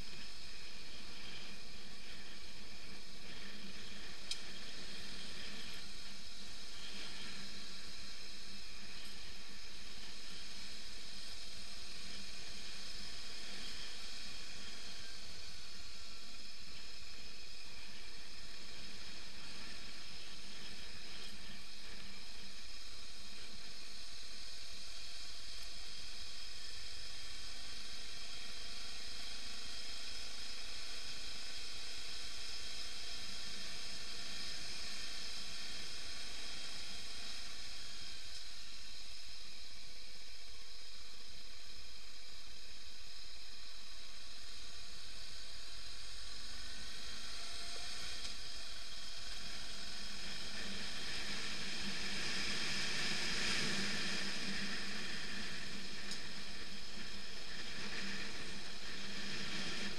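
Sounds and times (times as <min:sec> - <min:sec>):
wind hiss: 0:00.0 - 0:59.9.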